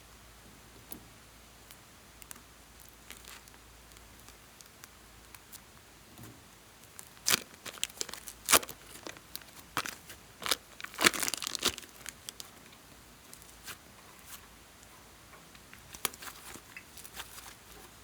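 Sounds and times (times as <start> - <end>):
materials crinkling and crackling: 2.2 - 14.9, 15.7 - 18.0.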